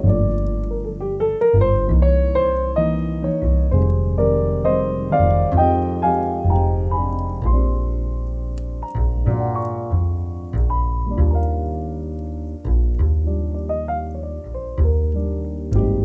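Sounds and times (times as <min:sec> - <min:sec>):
fireplace crackles: 0:00.0 - 0:16.0
slow piano music: 0:00.0 - 0:16.0.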